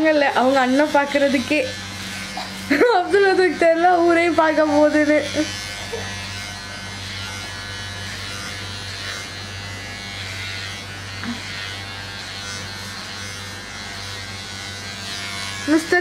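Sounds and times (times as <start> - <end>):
electric hair trimmer buzzing: 0.0 - 16.0.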